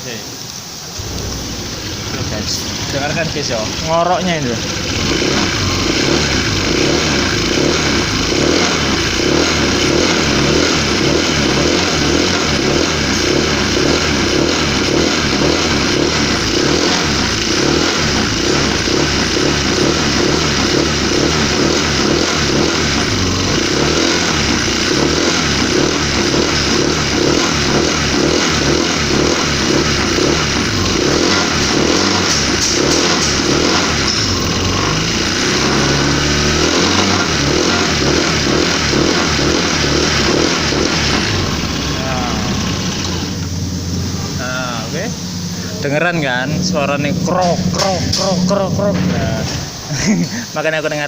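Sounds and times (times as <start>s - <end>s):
scooter engine running roughly: 1.0s - 50.4s.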